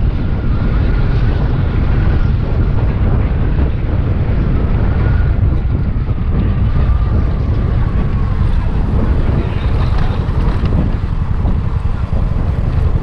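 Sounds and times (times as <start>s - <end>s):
faint thin scooter whine: 0.0s - 13.0s
wind buffeting microphone: 0.0s - 13.0s.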